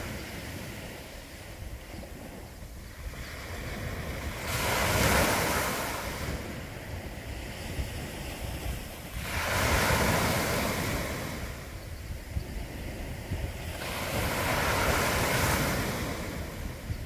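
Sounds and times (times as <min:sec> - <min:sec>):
waves washing up beach: 0:00.0 - 0:17.0.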